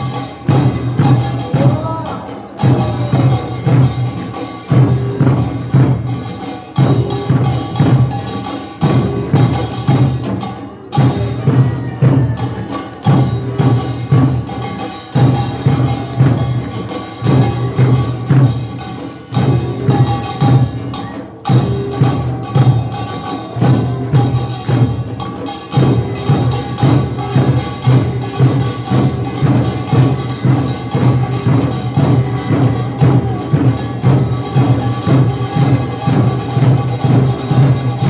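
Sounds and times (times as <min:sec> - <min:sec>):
drum strokes: 0:00.0 - 0:38.0.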